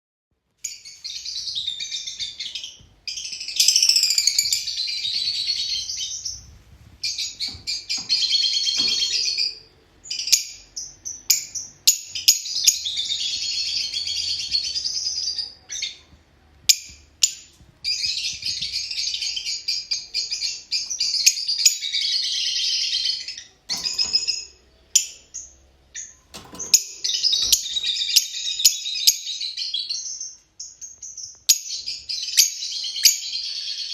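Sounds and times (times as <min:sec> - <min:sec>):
lovebirds twittering: 0:00.6 - 0:16.0, 0:16.7 - 0:33.9.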